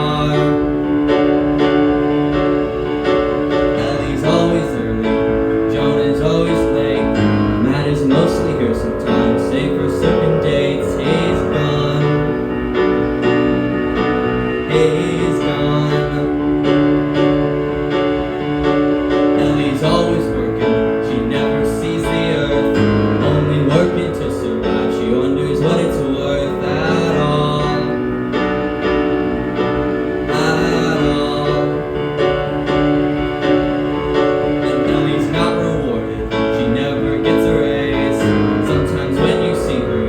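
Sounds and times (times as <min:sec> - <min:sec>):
person singing: 0:00.0 - 0:40.0
piano accompaniment: 0:00.0 - 0:40.0.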